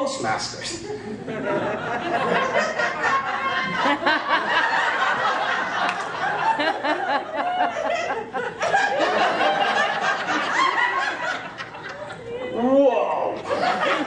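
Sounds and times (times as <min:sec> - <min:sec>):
audience laughing: 0:00.8 - 0:12.5, 0:13.4 - 0:14.0.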